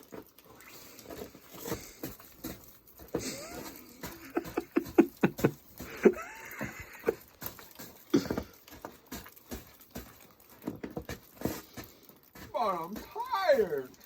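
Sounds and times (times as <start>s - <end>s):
boots crunching in snow: 1.0s - 13.9s.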